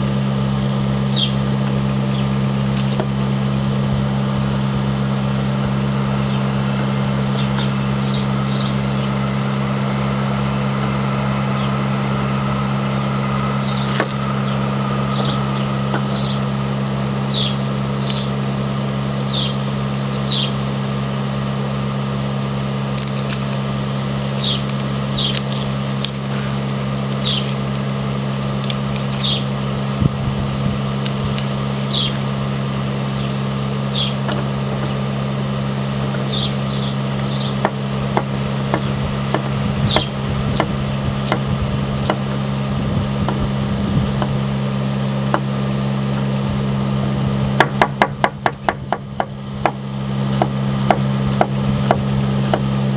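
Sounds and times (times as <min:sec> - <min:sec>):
low motor hum: 0:00.0 - 0:52.9.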